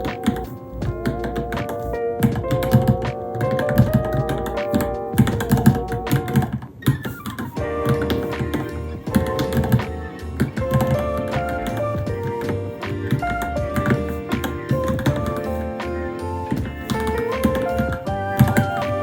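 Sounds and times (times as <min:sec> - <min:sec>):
mechanical keyboard typing: 0:00.0 - 0:15.6, 0:16.4 - 0:19.0
background music: 0:00.0 - 0:19.0.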